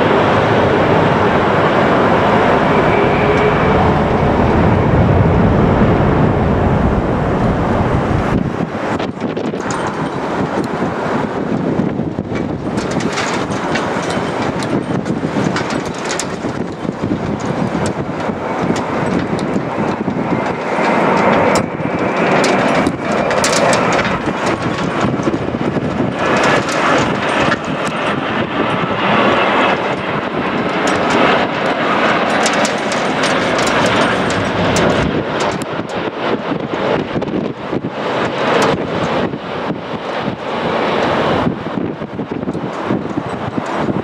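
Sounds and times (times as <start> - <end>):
jet engine roar: 0.0 - 44.0
wind buffeting microphone: 0.0 - 44.0.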